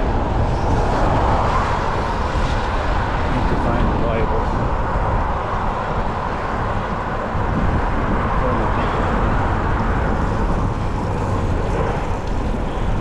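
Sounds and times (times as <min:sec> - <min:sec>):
road noise low rumble: 0:00.0 - 0:13.0
rushing wind: 0:00.0 - 0:13.0.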